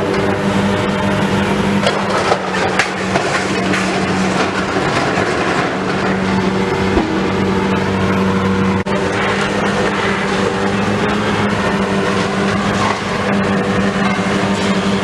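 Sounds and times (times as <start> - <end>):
continuous clatter: 0.0 - 15.0
heavy machine engine running: 0.0 - 15.0.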